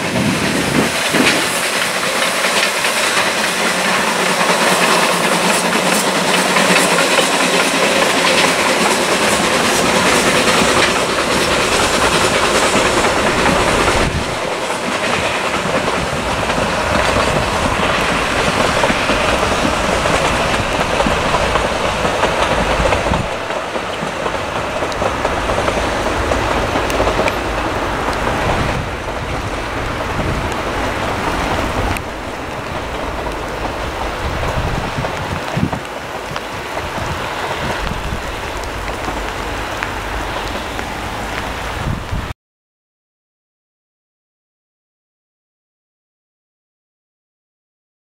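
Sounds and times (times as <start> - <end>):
coaches clicking over rails: 0.0 - 42.2
steam train passing: 0.0 - 42.3
rain: 0.0 - 42.4.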